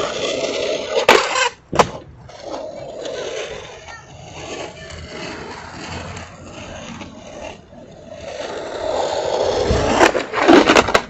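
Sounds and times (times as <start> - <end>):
skateboard clacks: 0.0 - 11.0
skateboard wheels rolling on pavement: 0.0 - 11.0.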